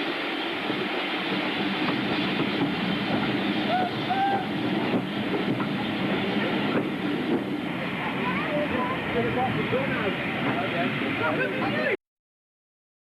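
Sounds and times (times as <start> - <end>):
train rattling on track: 0.0 - 12.0.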